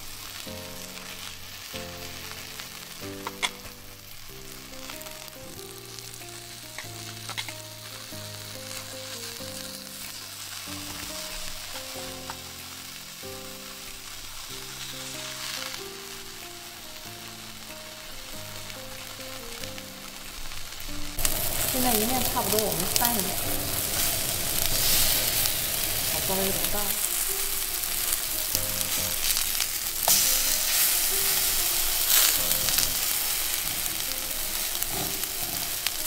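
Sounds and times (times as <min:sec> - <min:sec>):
background music: 0:00.0 - 0:36.0
batter sizzling in oil: 0:00.0 - 0:36.0.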